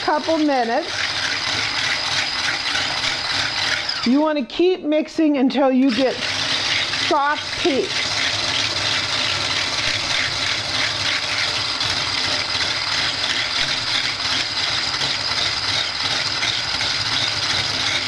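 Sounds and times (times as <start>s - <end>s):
blender whisk beating egg whites: 0.0s - 4.8s, 5.5s - 18.0s.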